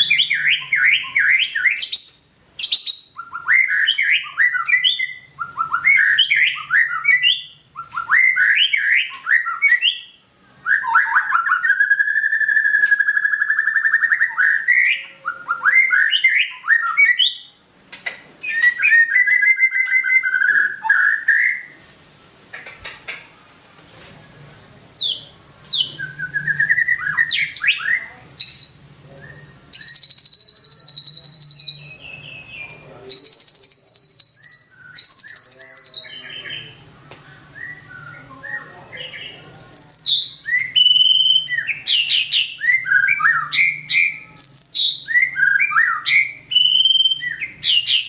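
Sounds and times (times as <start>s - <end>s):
songbird whistling and trilling: 0.0s - 21.8s, 24.9s - 48.0s.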